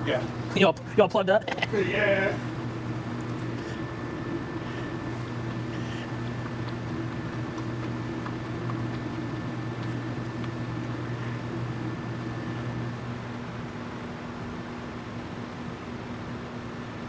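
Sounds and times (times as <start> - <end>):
motor humming: 0.0 - 15.2.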